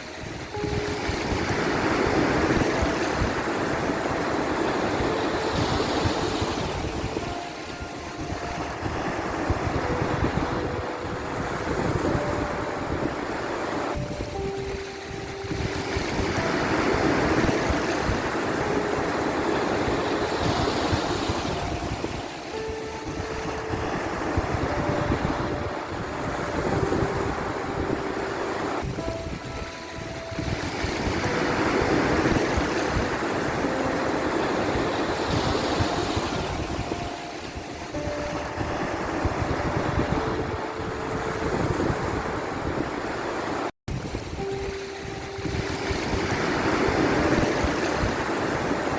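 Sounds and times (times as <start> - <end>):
ocean waves washing: 0.0 - 48.9
soft background music: 0.0 - 48.9.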